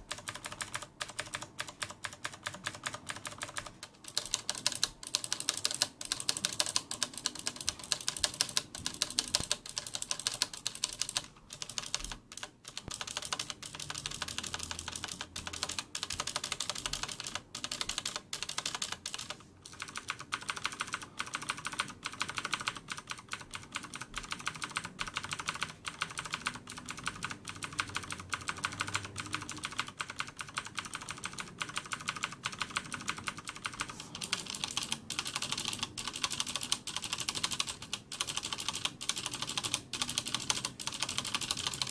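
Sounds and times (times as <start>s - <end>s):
clicky mechanical keyboard typing: 0.0s - 41.9s.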